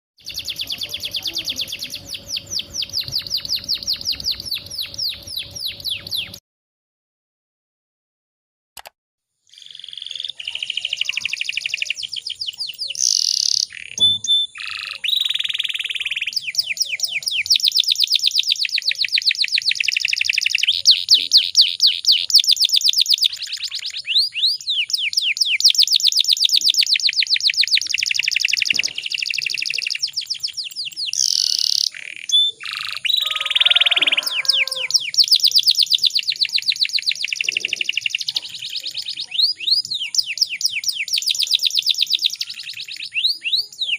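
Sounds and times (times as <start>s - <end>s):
canary singing trills: 0.2s - 6.4s, 9.5s - 43.9s.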